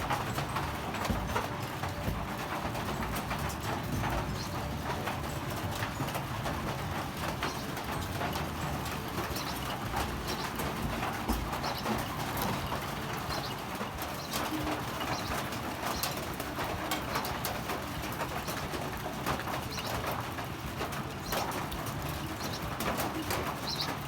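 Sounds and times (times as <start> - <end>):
birds: 0.0 - 24.0.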